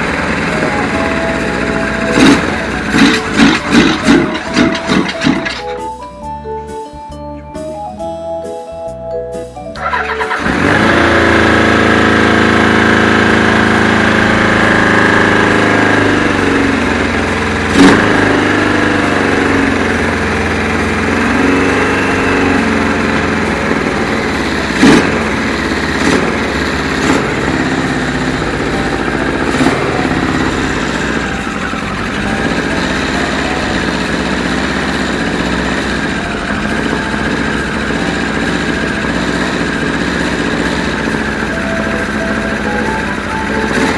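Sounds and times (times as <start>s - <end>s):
motorcycle engine revving: 0.0s - 5.8s, 9.8s - 43.9s
engine sharp pops: 0.0s - 5.9s, 9.8s - 43.9s.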